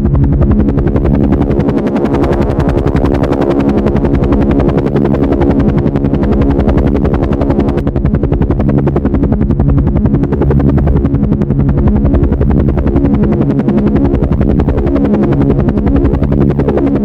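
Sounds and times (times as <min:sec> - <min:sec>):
helicopter engine hum: 0:00.0 - 0:17.0
helicopter rotor chopping: 0:00.0 - 0:17.0.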